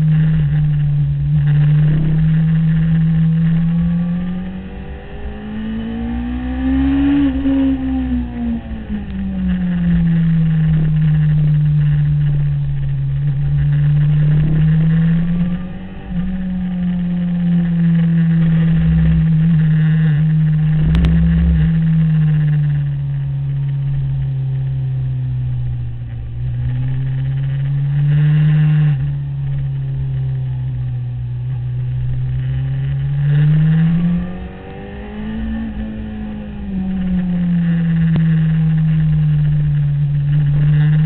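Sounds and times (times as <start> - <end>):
motorcycle engine running hard: 0.0 - 41.0.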